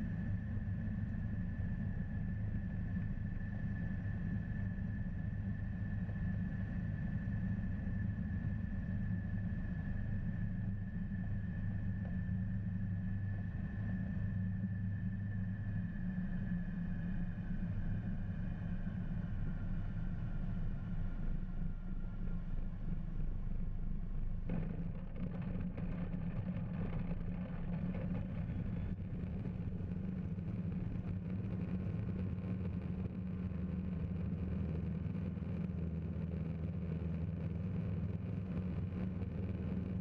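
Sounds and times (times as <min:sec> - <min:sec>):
propeller engine droning: 0:00.0 - 0:40.0.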